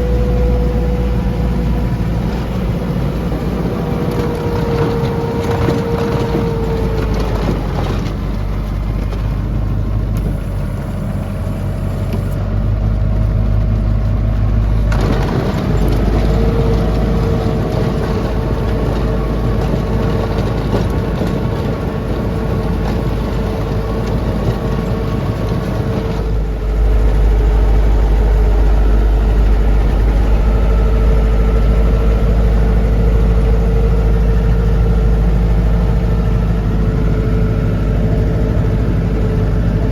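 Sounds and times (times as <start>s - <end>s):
steady whine: 0.0s - 39.9s
tractor diesel engine running: 0.0s - 39.9s.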